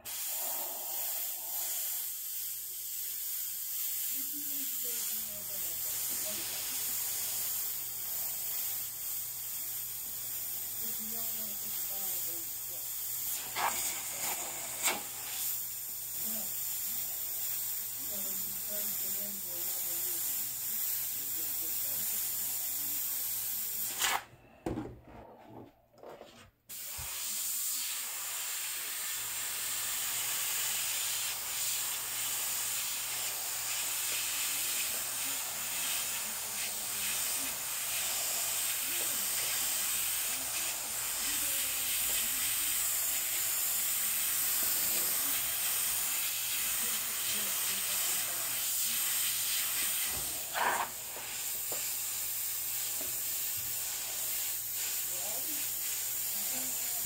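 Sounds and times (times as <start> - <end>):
airbrush spraying air hiss: 0.0 - 24.3, 26.7 - 57.0.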